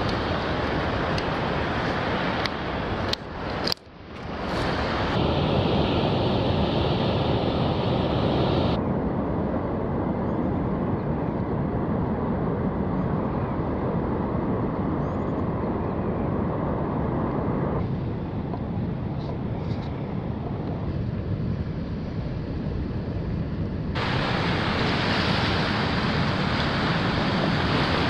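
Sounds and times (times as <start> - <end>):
rush of wind and water: 0.0 - 28.0.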